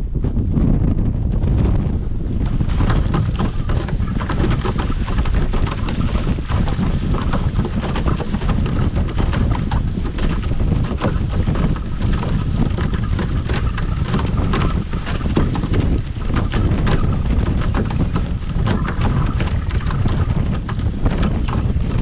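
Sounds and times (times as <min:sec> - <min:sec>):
hull slapping through chop: 0:00.0 - 0:22.0
water rushing along hull: 0:00.0 - 0:22.0
wind buffeting microphone: 0:00.0 - 0:22.0.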